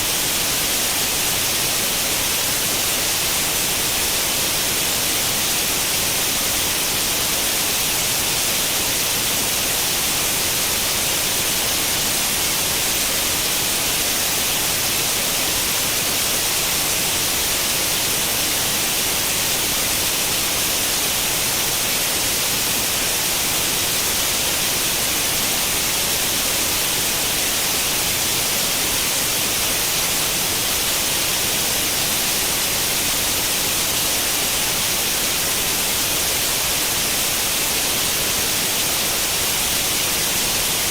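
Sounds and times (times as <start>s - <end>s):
white noise static hiss: 0.0s - 40.9s.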